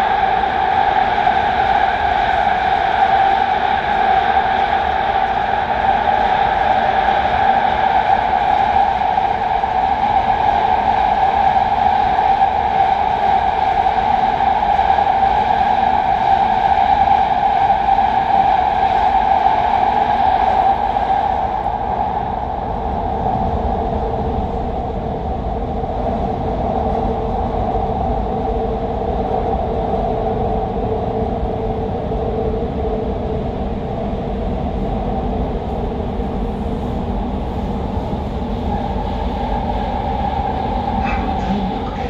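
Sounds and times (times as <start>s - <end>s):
steady whine: 0.0s - 42.0s
train wheels rumbling on rail: 0.0s - 42.0s.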